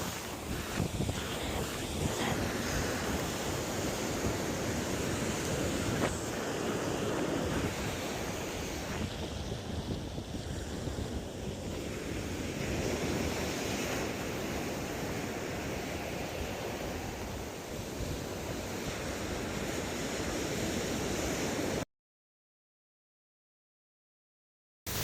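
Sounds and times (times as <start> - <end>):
ocean surf washing: 0.0 - 21.8
wind on microphone: 0.0 - 21.8.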